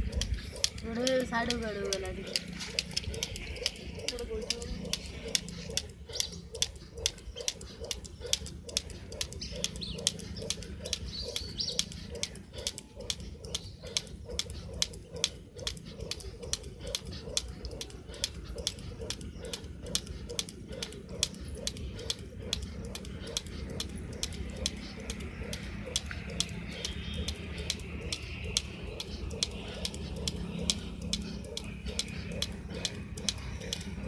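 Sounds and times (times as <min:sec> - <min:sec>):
jump rope slapping wet concrete: 0:00.0 - 0:34.0.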